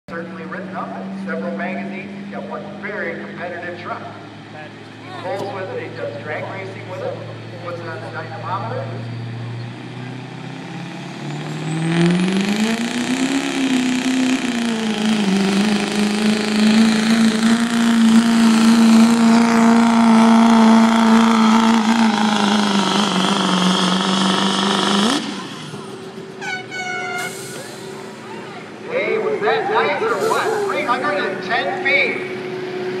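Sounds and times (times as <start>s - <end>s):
diesel truck engine at full throttle: 0.1s - 33.0s.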